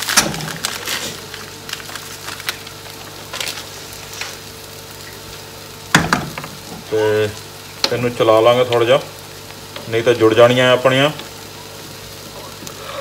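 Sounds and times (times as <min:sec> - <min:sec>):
faint crackles: 0:00.0 - 0:13.0
food sizzling in a pan: 0:00.0 - 0:13.0.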